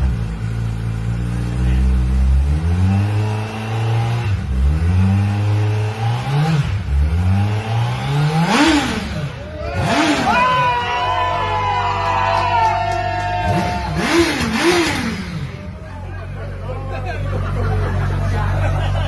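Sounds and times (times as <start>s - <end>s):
motorcycle engine revving: 0.0s - 11.1s, 13.3s - 19.0s.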